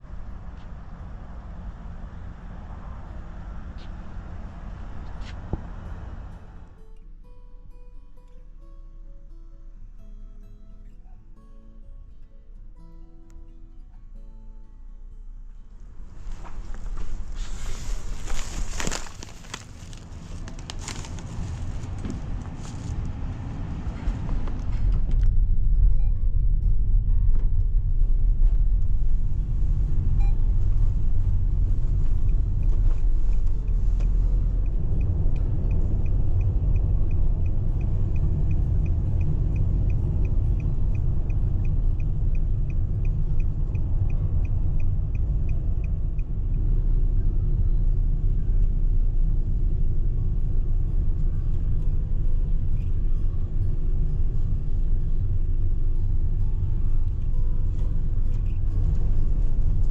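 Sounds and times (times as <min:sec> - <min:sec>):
van road and engine rumble: 0:00.0 - 0:59.9
turn signal ticking: 0:00.2 - 0:07.4, 0:15.6 - 0:59.9.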